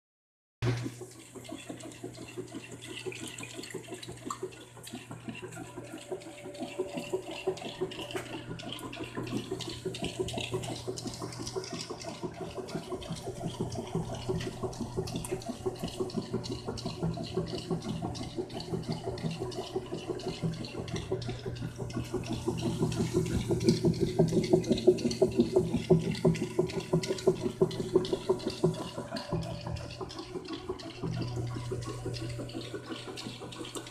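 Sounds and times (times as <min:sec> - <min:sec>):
water splashing into washing machine: 0:00.6 - 0:33.9.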